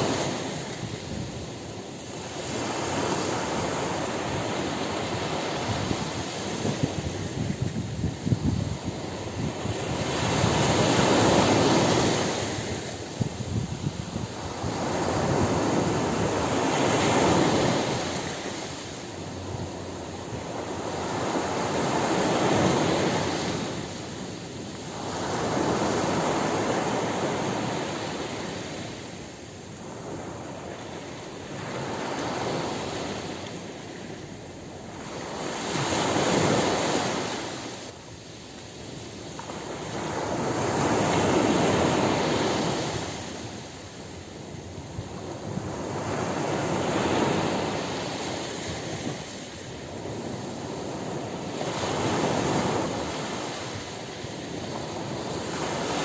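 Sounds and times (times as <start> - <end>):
ocean waves crashing on beach: 0.0 - 56.0.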